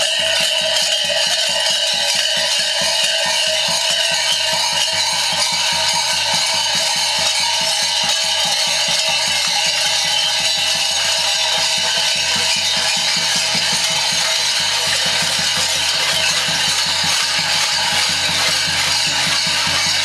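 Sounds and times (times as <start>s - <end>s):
large bells clanging: 0.1s - 20.0s.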